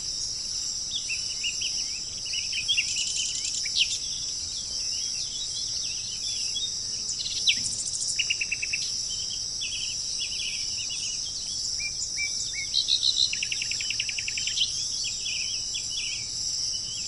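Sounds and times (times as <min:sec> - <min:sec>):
high-pitched bird chorus: 0:00.0 - 0:17.0
songbirds chirping: 0:00.0 - 0:17.0
fast bird trill: 0:00.8 - 0:17.0.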